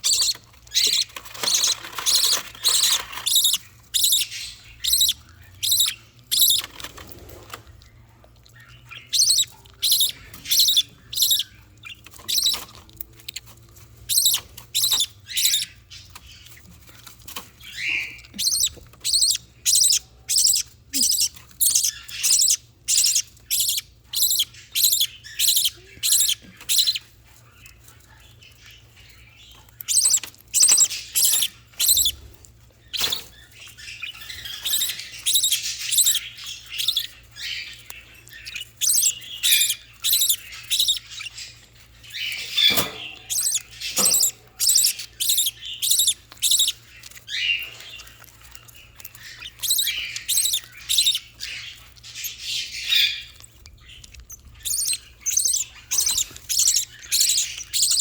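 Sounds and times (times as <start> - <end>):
baby budgerigars begging cheeps: 0.0 - 58.0.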